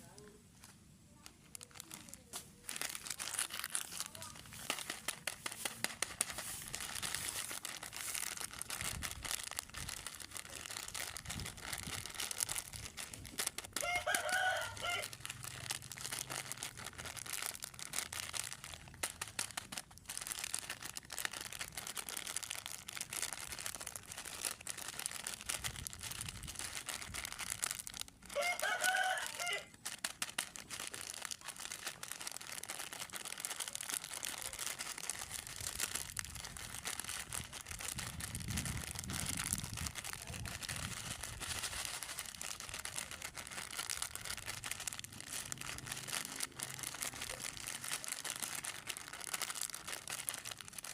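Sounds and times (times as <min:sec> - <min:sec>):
plastic packaging crinkling: 0:00.0 - 0:50.9.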